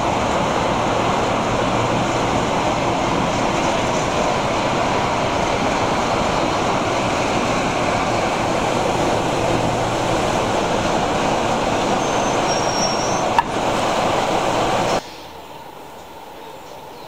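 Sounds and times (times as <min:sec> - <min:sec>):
rushing air: 0:00.0 - 0:15.4
diesel locomotive engine: 0:00.0 - 0:17.0
train wheels on rail: 0:00.0 - 0:17.0.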